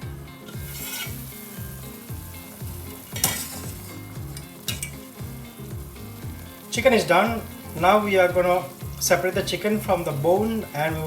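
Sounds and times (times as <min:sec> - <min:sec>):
stock bubbling and hissing in pot: 0:00.0 - 0:11.0.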